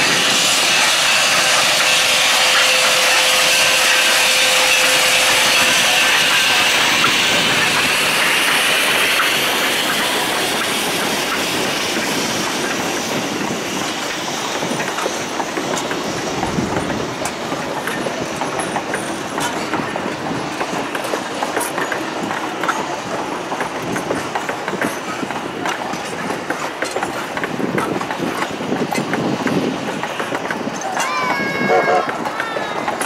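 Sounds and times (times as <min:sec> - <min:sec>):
train cars rumbling past: 0:00.0 - 0:33.0
wheels clicking over rail joints: 0:00.0 - 0:33.0.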